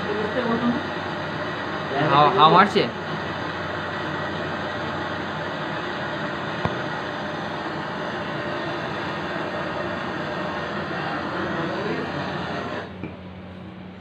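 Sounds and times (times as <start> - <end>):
air blowing hiss: 0.0 - 13.0.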